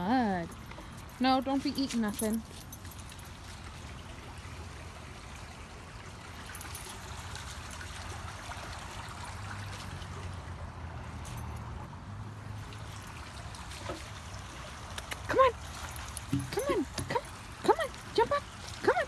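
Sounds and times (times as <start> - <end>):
water trickling over gravel: 0.0 - 19.0.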